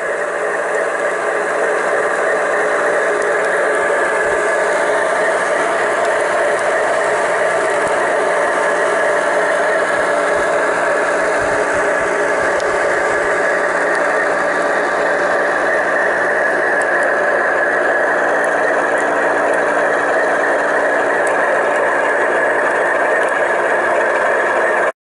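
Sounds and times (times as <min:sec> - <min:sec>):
model train mechanical drone: 0:00.0 - 0:24.9.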